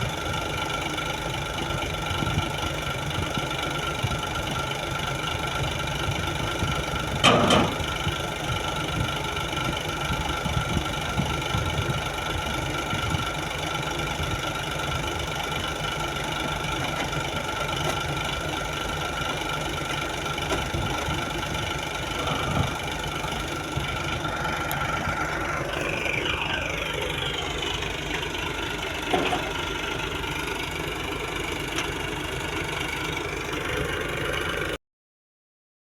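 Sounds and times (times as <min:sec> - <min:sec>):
crane engine running: 0:00.0 - 0:34.8.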